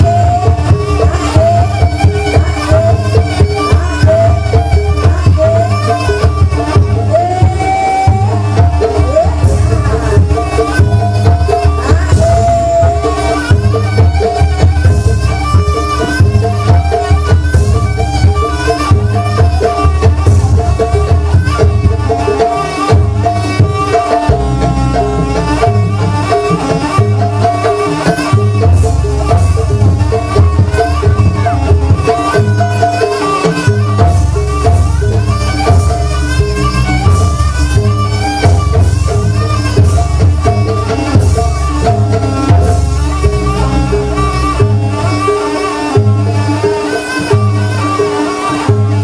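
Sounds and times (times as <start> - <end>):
drums: 0.0 - 49.0
gamelan-style instruments melody: 0.0 - 49.0.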